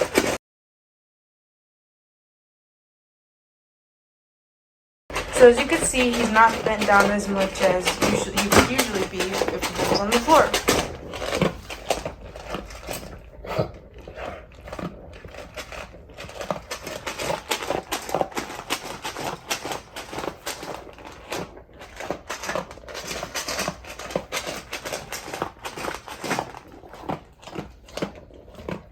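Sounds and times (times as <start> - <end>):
dog crunching food: 0.0 - 0.4, 5.1 - 28.9.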